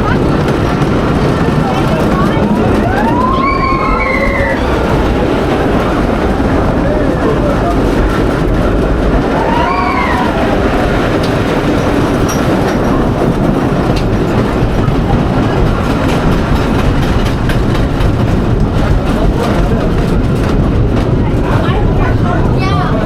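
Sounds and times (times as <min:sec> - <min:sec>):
clattering wheels: 0:00.0 - 0:23.0
roller coaster train rumbling: 0:00.0 - 0:23.0.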